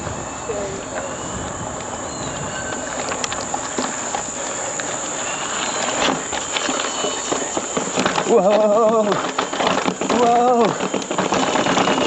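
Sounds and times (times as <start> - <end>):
bicycle rolling rushing noise: 0.0 - 12.0
insects buzzing: 0.0 - 12.0.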